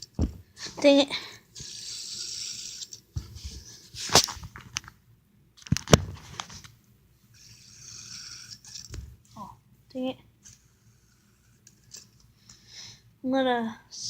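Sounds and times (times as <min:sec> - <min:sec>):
fidget spinner whirring: 0:00.0 - 0:04.9, 0:06.2 - 0:12.8.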